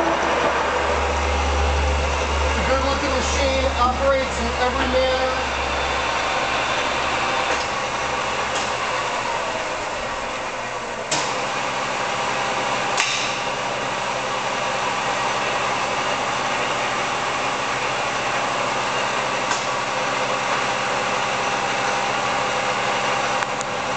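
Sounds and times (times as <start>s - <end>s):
drill press motor running: 0.0s - 23.9s.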